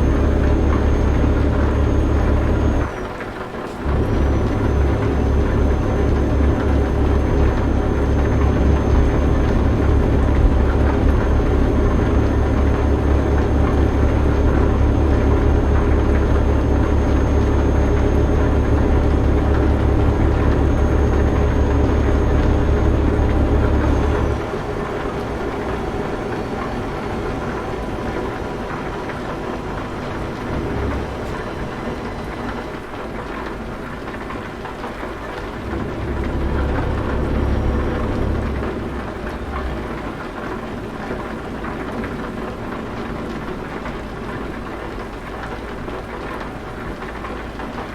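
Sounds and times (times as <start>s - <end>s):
heavy truck engine drone: 0.0s - 47.9s
road noise: 0.0s - 47.9s.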